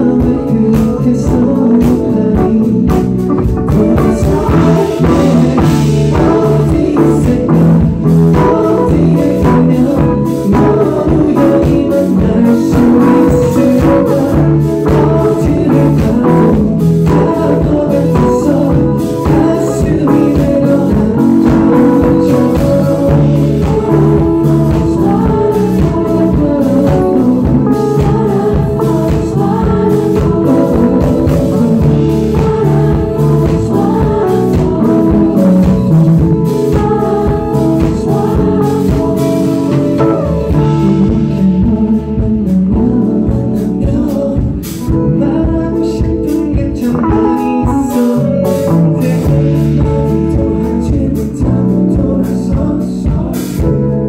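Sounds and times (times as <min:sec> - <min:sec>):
live band with steady beat: 0:00.0 - 0:54.0
man singing: 0:00.0 - 0:54.0.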